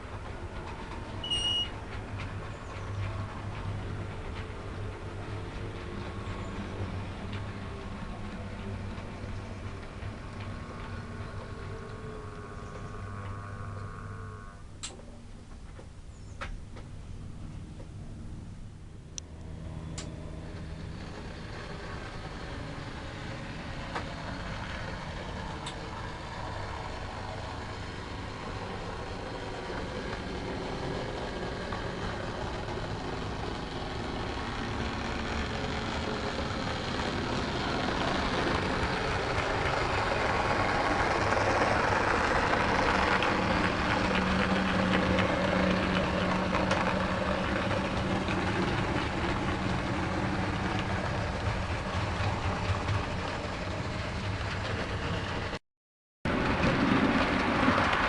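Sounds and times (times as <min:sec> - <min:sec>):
model train rolling noise: 0:00.0 - 0:14.8, 0:19.2 - 0:55.6, 0:56.3 - 0:58.0
model locomotive diesel engine: 0:00.0 - 0:55.6, 0:56.3 - 0:58.0.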